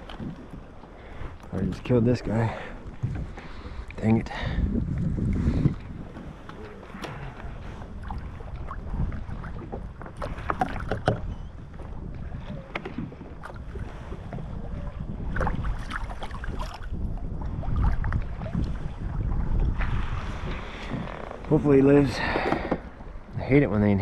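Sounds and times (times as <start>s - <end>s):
water lapping against kayak hull: 0.0s - 24.0s
wind buffeting microphone: 0.0s - 24.0s.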